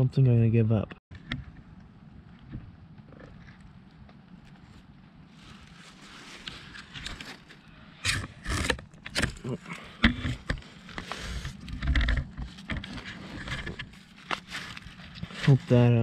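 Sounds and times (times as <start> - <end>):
rustling and scraping: 1.2 - 16.0.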